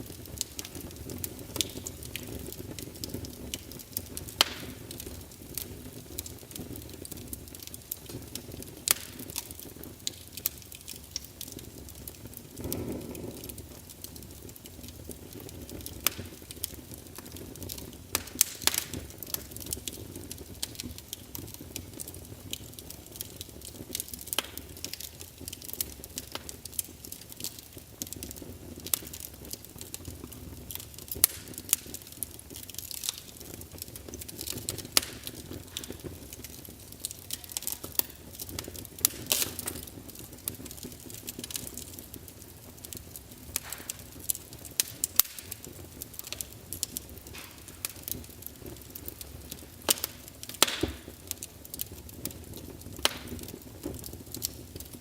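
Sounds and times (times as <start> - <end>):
logs crackling and popping: 0.0 - 55.0
low rush of flame: 0.0 - 55.0.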